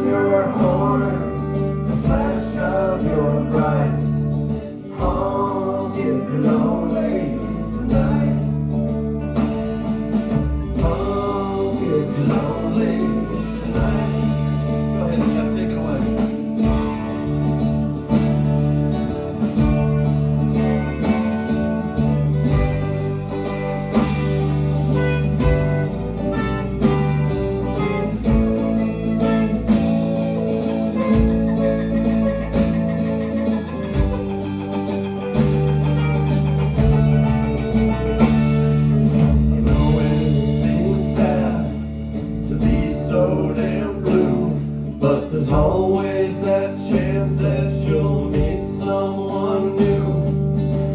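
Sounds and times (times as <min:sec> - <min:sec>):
live band playing instrumental: 0:00.0 - 0:50.9.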